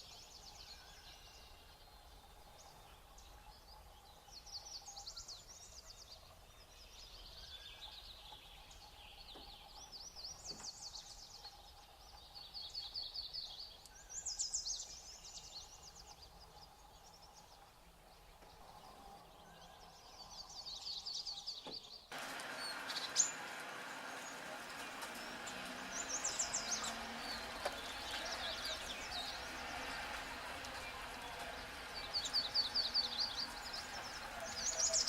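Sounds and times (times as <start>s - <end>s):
songbirds trilling: 0.0s - 35.0s.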